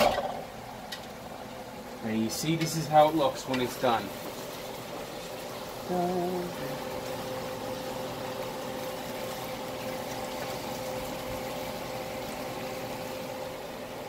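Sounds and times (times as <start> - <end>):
faint steady hum: 0.0 - 14.0
sauce bubbling in a frying pan: 2.7 - 14.0.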